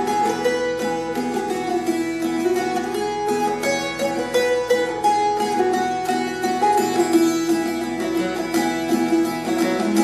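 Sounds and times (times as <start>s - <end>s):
dulcimer strummed melody: 0.0s - 10.0s.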